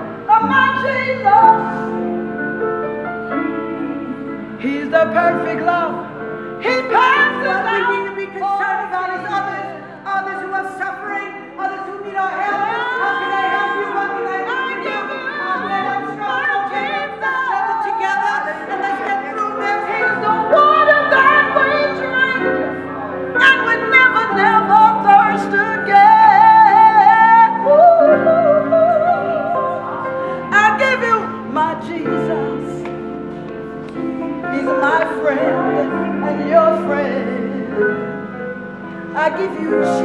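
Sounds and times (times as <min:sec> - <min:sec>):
woman singing with vibrato: 0:00.0 - 0:02.2, 0:03.3 - 0:32.9, 0:34.0 - 0:38.4, 0:39.1 - 0:40.0
sustained instrumental chords: 0:00.0 - 0:10.6, 0:11.3 - 0:40.0.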